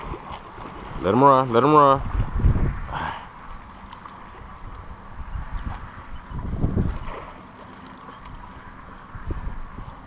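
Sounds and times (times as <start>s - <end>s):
wind rumbling on microphone: 0.0s - 7.4s, 8.1s - 10.0s.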